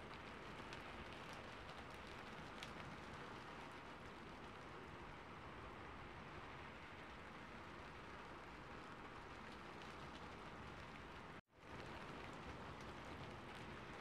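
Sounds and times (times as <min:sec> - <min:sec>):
faint raindrop ticks: 0:00.0 - 0:14.0
steady rain hiss: 0:00.0 - 0:14.0.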